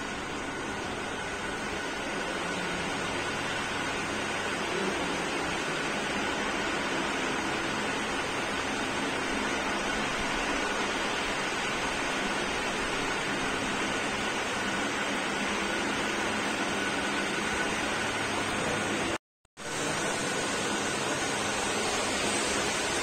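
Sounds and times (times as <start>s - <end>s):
fans and air conditioners rushing: 0.0s - 23.0s.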